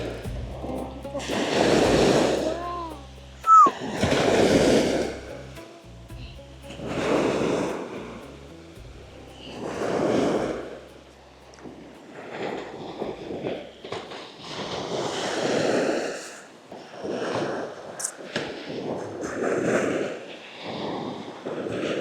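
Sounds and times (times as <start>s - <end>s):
surf: 0.0s - 22.0s
wind: 0.0s - 22.0s.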